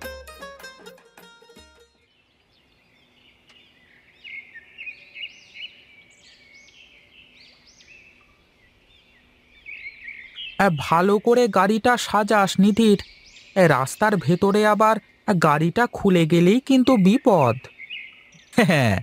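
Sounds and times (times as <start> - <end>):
small birds chirping: 2.0 - 19.0.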